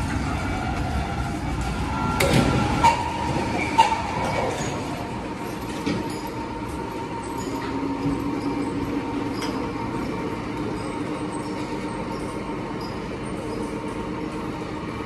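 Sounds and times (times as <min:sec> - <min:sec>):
crane mechanical drone: 0:00.0 - 0:15.0.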